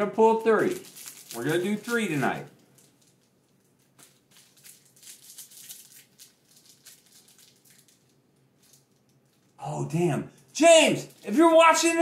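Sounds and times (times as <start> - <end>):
foil packs crinkling: 0.1 - 9.6, 10.8 - 12.0.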